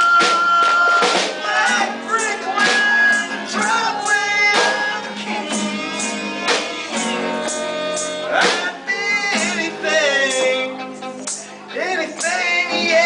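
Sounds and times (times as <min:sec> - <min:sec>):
person singing: 0:00.0 - 0:13.0
strummed acoustic guitar: 0:00.0 - 0:13.0.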